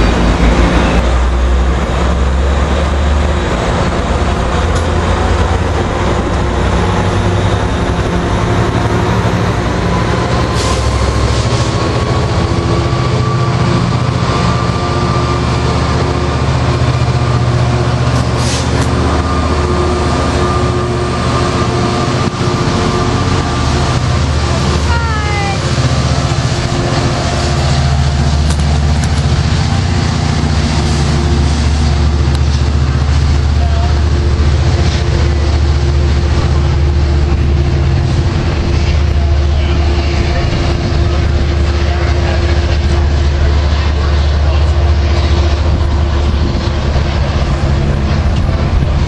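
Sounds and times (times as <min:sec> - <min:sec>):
diesel locomotive engine rumbling: 0:00.0 - 0:49.0.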